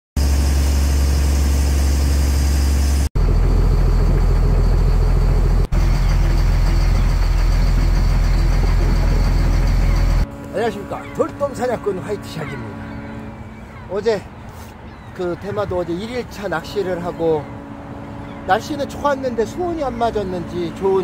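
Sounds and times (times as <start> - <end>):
boat engine humming: 0.2 - 21.0.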